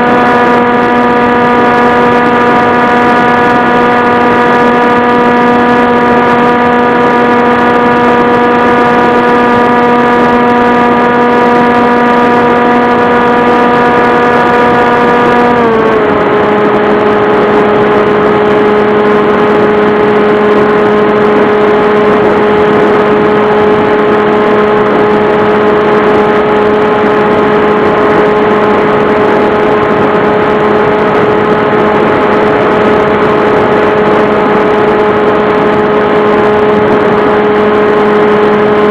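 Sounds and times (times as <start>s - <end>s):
model airplane motor and propeller: 0.0s - 38.9s
rushing air noise: 0.0s - 38.9s.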